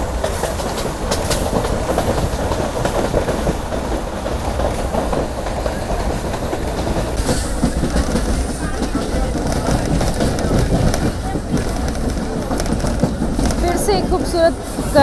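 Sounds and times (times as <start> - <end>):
train rumbling on track: 0.0 - 15.0
wheels clattering over rail joints: 0.0 - 15.0.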